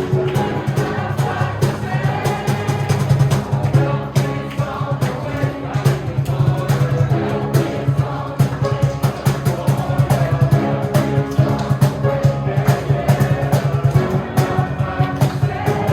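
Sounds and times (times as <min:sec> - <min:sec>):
instrumental accompaniment with beat: 0:00.0 - 0:15.9
youth choir singing: 0:00.0 - 0:15.9.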